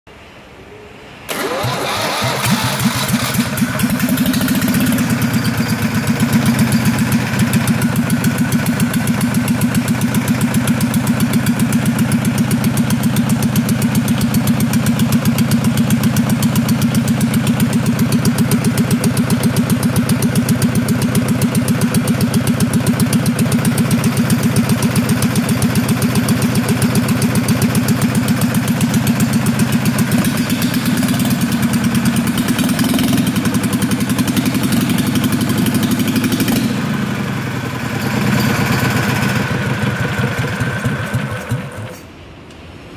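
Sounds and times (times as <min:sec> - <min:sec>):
diesel engine running: 0:01.3 - 0:42.2.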